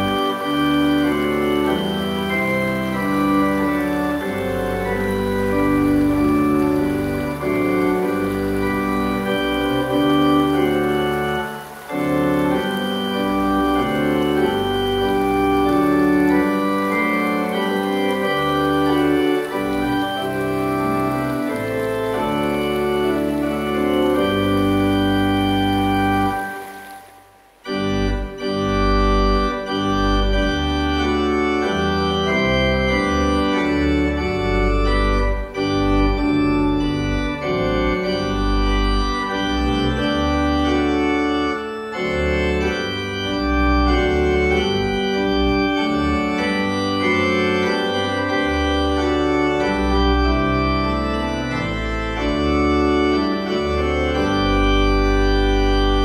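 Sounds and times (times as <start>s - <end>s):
organ playing hymn chords: 0.0s - 56.0s.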